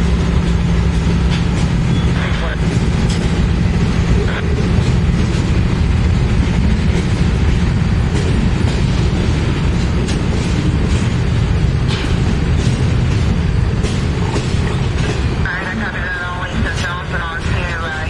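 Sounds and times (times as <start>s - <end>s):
diesel locomotive engine: 0.0s - 18.0s
freight cars rumbling: 0.0s - 18.0s.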